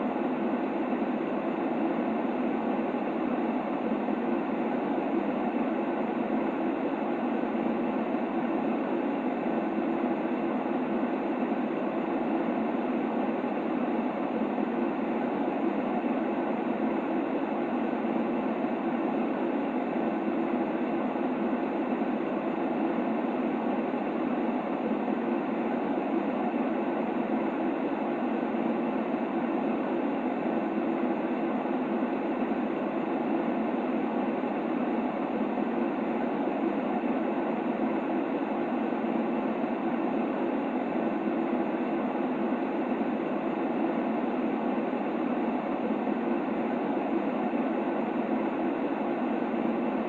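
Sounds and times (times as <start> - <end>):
steady white noise hiss: 0.0 - 50.0.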